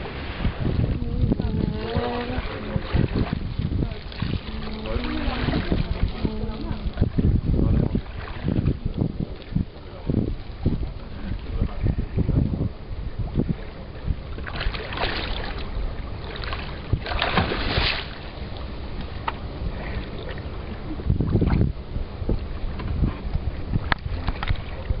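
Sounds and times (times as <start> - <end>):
small waves lapping and splashing: 0.0 - 12.4, 13.1 - 21.7, 22.3 - 25.0
wind rumble on microphone: 0.0 - 25.0.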